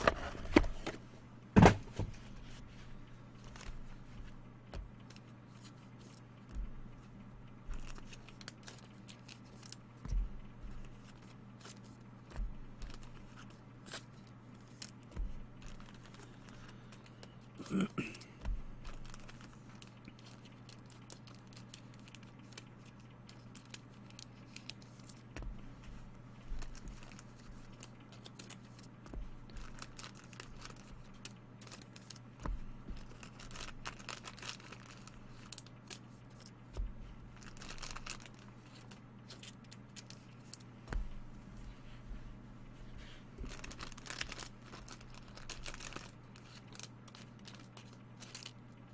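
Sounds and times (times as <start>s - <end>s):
wrappers crinkling and tearing: 5.0s - 9.9s, 10.8s - 25.3s, 26.4s - 40.7s, 43.4s - 48.9s.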